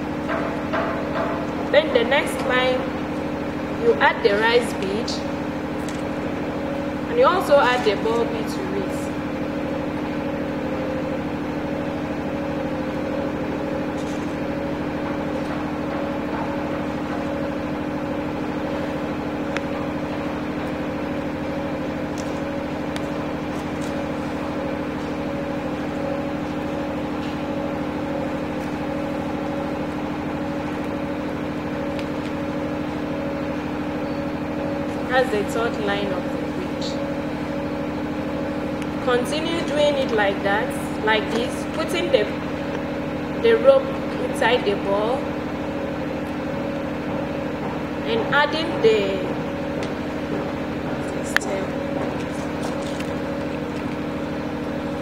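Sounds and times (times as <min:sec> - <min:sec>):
steady machine hum: 0:00.0 - 0:55.0.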